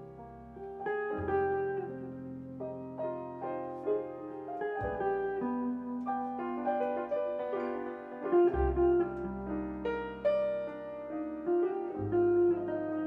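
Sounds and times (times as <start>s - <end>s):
jazz trio playing: 0.0s - 13.0s.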